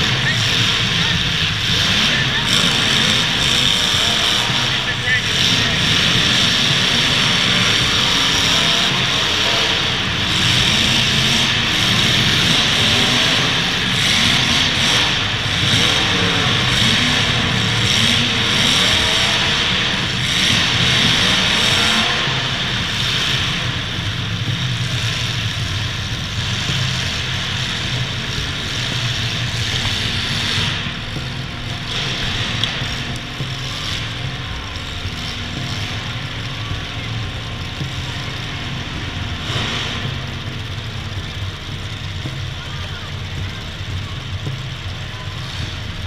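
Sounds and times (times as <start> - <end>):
car engines revving: 0.0 - 46.0
dense rush of noise: 0.0 - 46.0.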